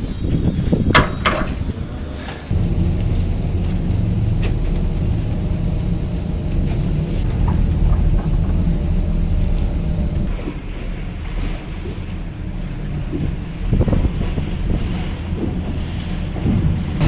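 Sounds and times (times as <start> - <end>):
ferry engine rumble: 0.0 - 17.0.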